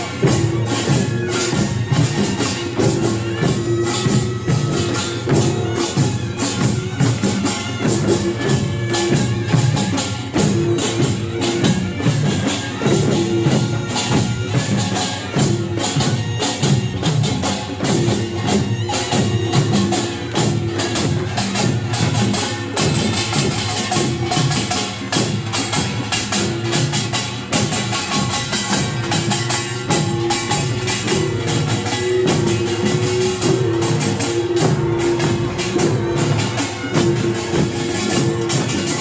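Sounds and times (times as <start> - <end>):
barrel drums: 0.0 - 39.0
hourglass drums: 0.0 - 39.0
small gongs clanging: 0.0 - 39.0.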